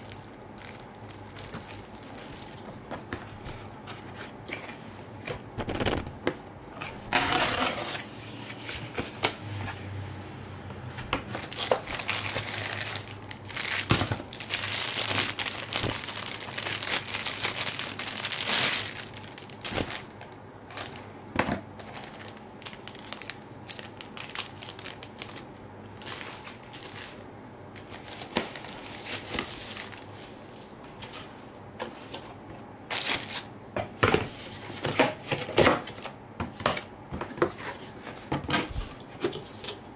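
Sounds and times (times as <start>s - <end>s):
cardboard and plastic rustling: 0.0s - 39.9s.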